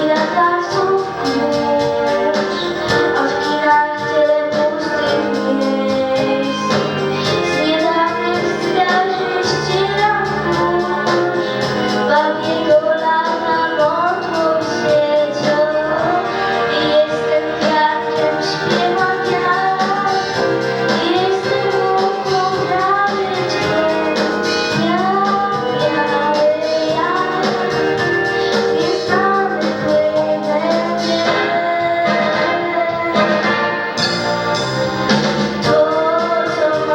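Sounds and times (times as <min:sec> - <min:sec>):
woman singing: 0:00.0 - 0:33.8, 0:35.6 - 0:36.9
instrumental accompaniment: 0:00.0 - 0:36.9.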